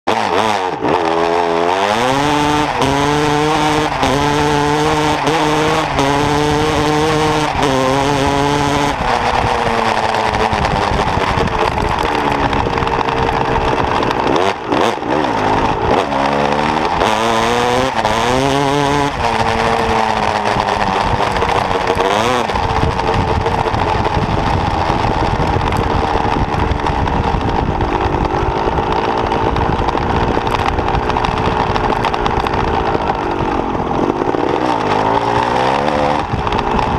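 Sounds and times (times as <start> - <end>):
motocross bike engine revving: 0.1 - 36.9.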